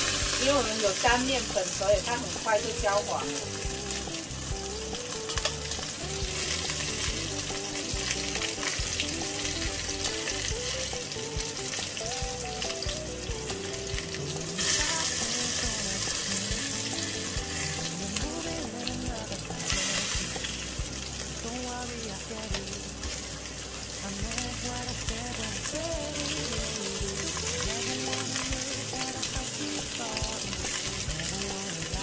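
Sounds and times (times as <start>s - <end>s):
meat sizzling in hot oil: 0.0s - 32.0s.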